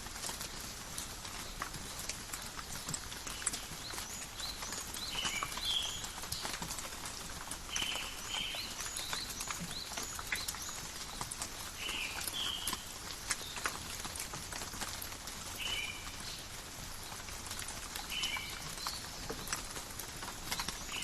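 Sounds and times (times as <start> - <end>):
rain patter in forest: 0.0 - 21.0.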